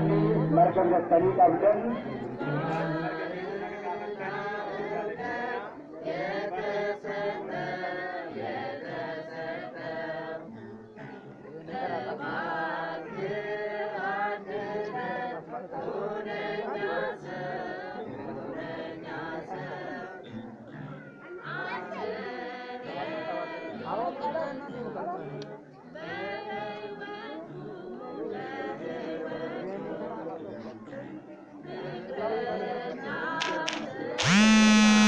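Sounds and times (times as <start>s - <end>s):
voices singing a chant: 0.0s - 35.0s.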